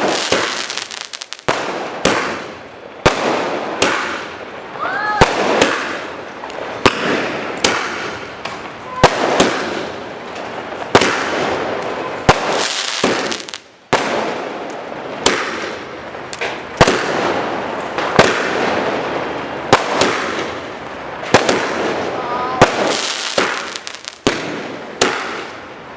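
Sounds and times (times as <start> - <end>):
firework crackling hiss: 0.0 - 25.7
firework bangs: 0.0 - 25.9.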